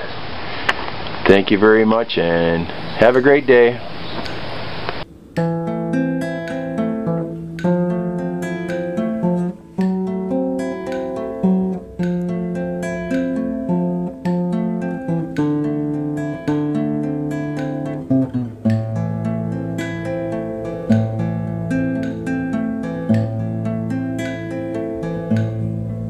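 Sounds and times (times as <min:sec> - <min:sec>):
acoustic guitar strumming: 0:04.2 - 0:26.0.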